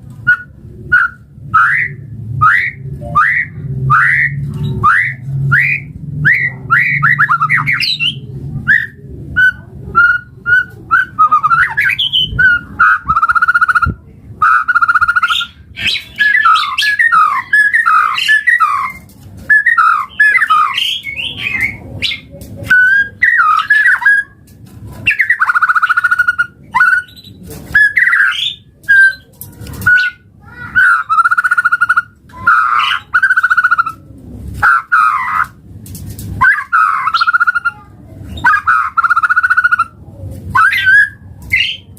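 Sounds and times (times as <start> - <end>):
bird singing varied song: 0.3 - 24.4, 25.0 - 34.0, 36.4 - 40.0, 40.6 - 41.9.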